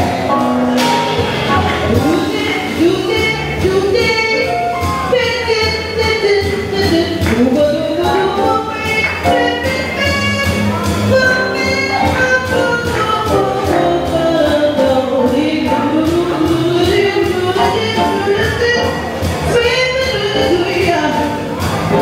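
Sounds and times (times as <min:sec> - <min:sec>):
drum kit cymbals: 0:00.0 - 0:22.0
jazz band playing: 0:00.0 - 0:22.0
people singing jazz vocals: 0:00.0 - 0:22.0.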